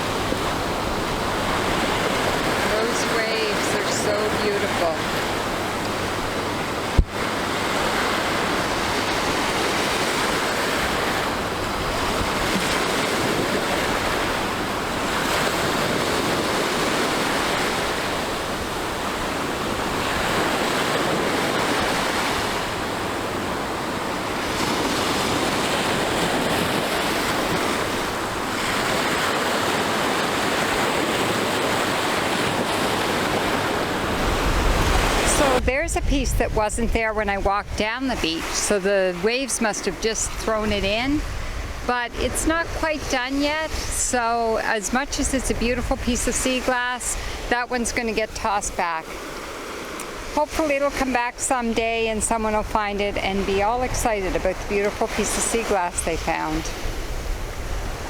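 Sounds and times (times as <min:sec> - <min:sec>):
waves breaking on a beach: 0:00.0 - 0:58.0
wind buffeting the microphone: 0:00.0 - 0:58.0.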